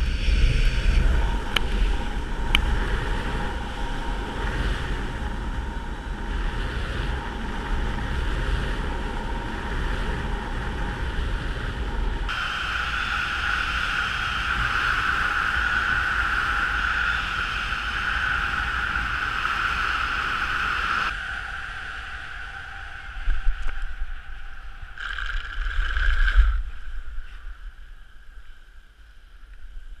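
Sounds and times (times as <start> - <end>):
wind rushing over camera: 0.0 - 30.0.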